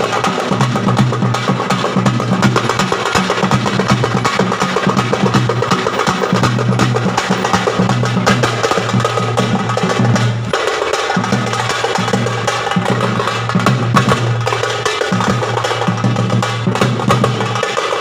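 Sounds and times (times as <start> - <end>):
drum set fast rhythm: 0.0 - 18.0.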